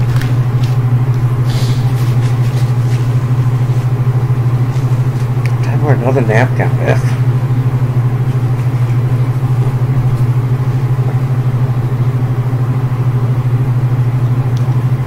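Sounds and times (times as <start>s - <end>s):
loud low hum: 0.0s - 15.0s.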